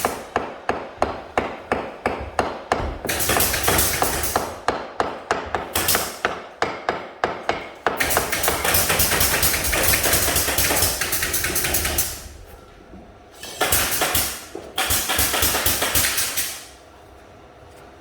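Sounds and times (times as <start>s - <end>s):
rapid hammering: 0.0s - 12.2s, 13.4s - 16.7s.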